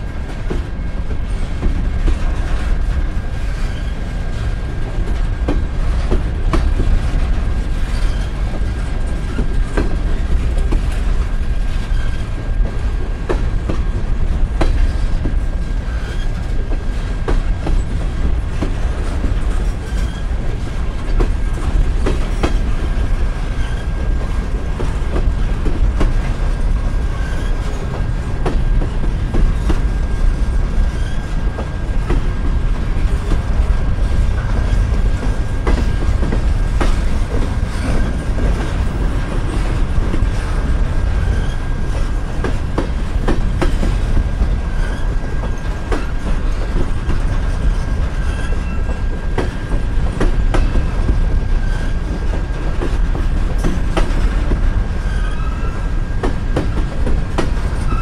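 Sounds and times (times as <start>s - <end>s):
freight train rumbling: 0.0s - 58.0s
wheels clicking over rail joints: 0.0s - 58.0s.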